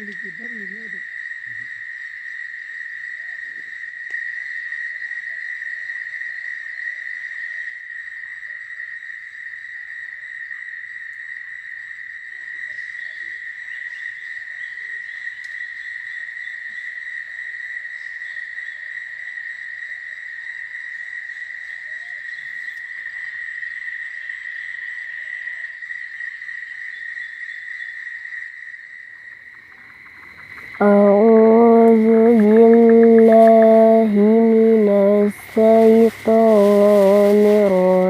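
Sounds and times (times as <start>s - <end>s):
crickets trilling: 0.0s - 38.0s.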